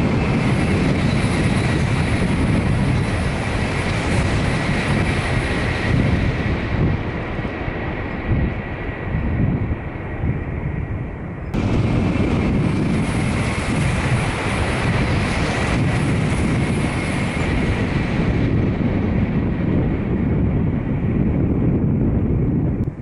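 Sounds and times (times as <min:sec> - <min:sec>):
high-speed train passing: 0:00.0 - 0:23.0
steady high whine: 0:00.0 - 0:23.0.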